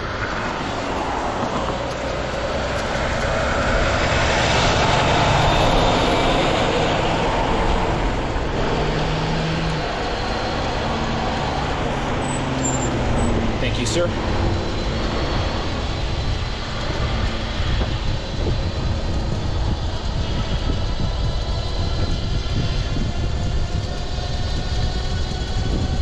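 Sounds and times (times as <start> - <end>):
road noise: 0.0 - 26.0
wind rushing: 0.0 - 26.0.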